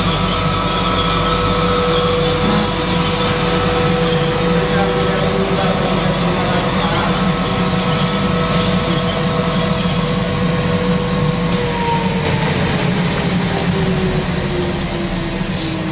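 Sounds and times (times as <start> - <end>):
labelling machine running: 0.0 - 15.9
motor tone sinking in pitch: 0.0 - 15.9.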